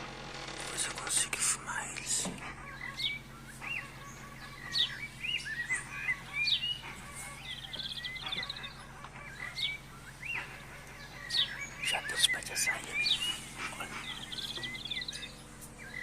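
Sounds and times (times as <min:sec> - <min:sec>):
songbirds singing and calling: 0:00.0 - 0:16.0
rapid bird trill: 0:00.1 - 0:16.0.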